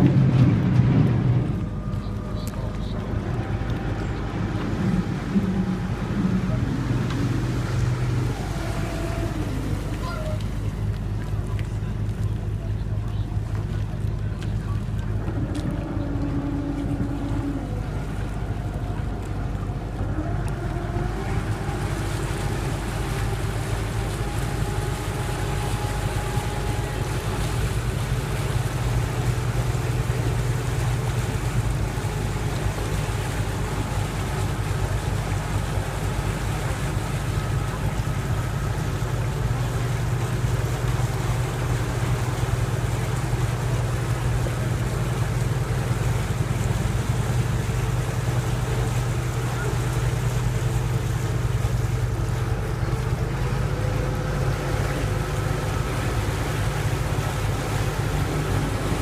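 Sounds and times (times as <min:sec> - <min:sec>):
hiss of wind and water: 0:00.0 - 0:59.0
motorboat engine running: 0:00.0 - 0:59.0.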